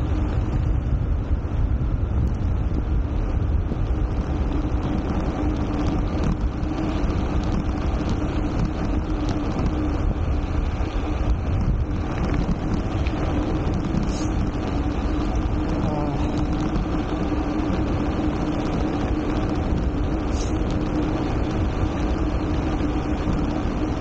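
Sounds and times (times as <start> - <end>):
tyre and road rumble: 0.0 - 24.0
wind rushing over microphone: 0.0 - 24.0.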